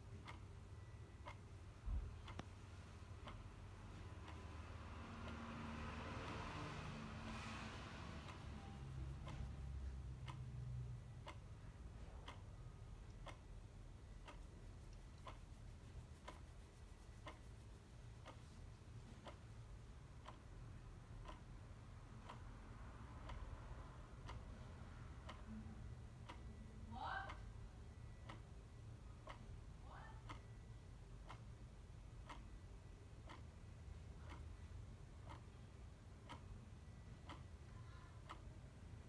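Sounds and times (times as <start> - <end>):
clock ticking: 0.0 - 39.0.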